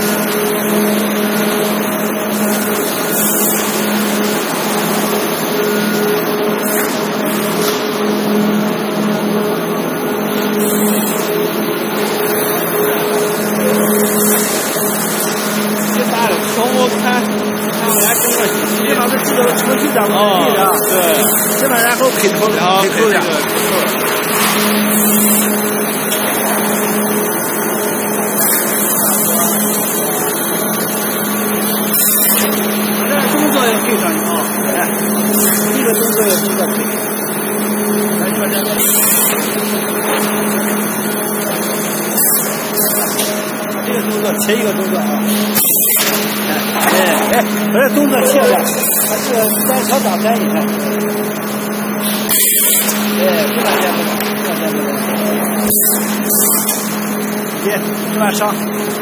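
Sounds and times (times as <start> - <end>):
clay extruder running: 0.0 - 59.0
machinery mechanical drone: 0.0 - 59.0.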